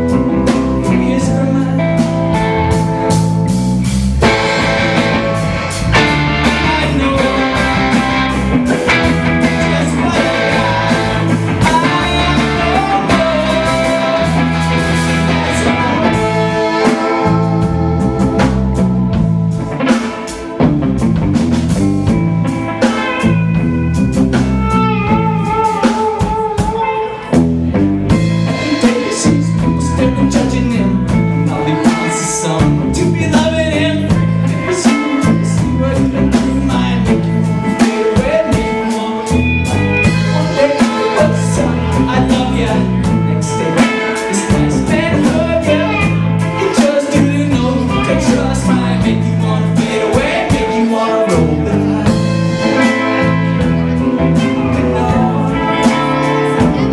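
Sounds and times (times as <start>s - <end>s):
drum kit: 0.0s - 56.9s
electric bass: 0.0s - 56.9s
electric guitars: 0.0s - 56.9s.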